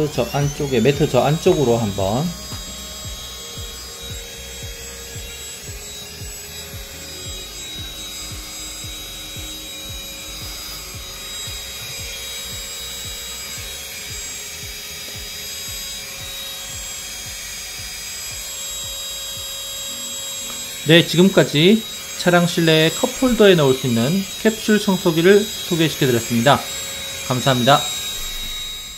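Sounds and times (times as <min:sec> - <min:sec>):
vacuum motor whine: 0:00.0 - 0:28.9.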